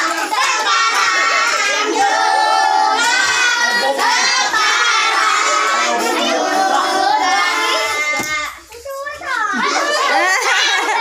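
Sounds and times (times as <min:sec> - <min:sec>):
children and women singing: 0:00.0 - 0:08.8, 0:09.6 - 0:11.0.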